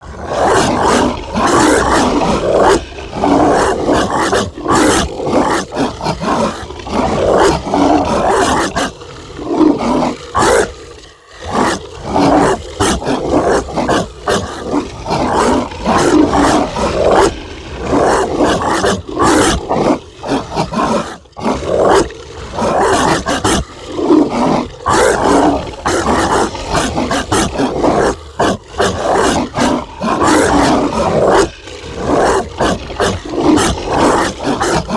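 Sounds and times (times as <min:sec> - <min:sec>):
dog barking and growling: 0:00.0 - 0:10.8, 0:11.4 - 0:34.9.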